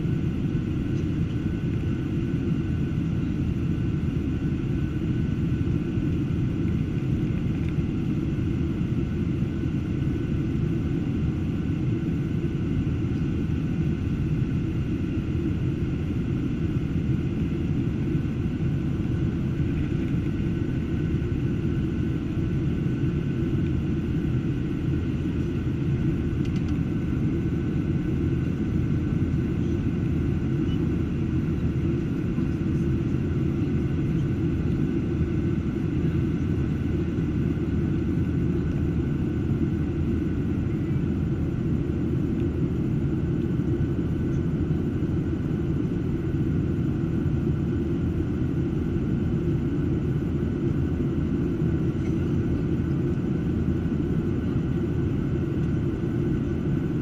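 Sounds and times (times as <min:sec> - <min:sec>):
airplane cabin rumble: 0:00.0 - 0:57.0
faint steady whine: 0:00.0 - 0:57.0.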